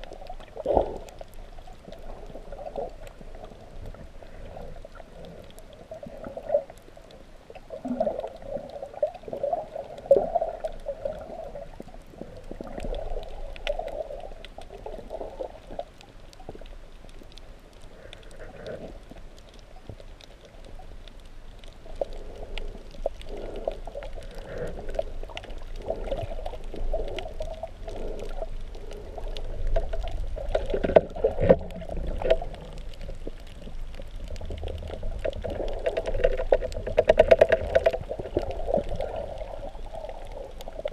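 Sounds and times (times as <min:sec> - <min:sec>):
faint clicks: 0:00.0 - 0:40.9
underwater water rushing: 0:00.0 - 0:40.9.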